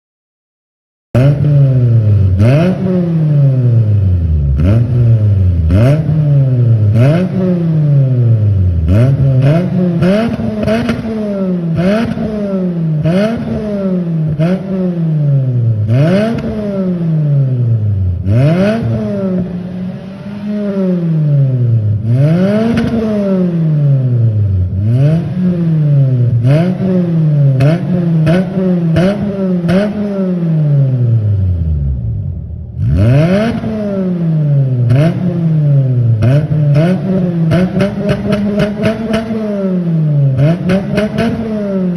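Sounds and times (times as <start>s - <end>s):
car engine revving: 1.2s - 41.9s.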